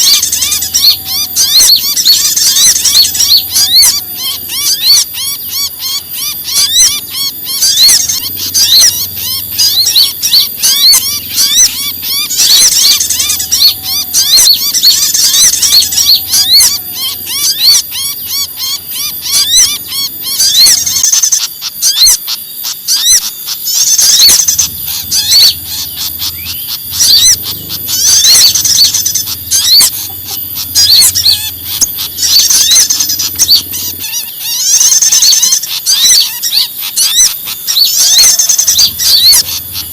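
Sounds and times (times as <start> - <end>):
faint low hum: 0.0 - 39.9
songbirds chirping in agitation: 0.0 - 39.9.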